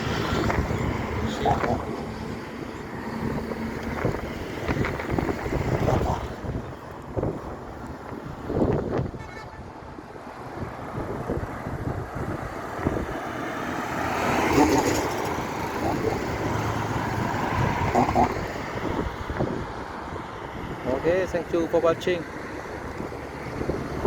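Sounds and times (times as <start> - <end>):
wind buffeting microphone: 0.0 - 21.2, 21.9 - 24.0
road traffic passing: 0.0 - 24.0.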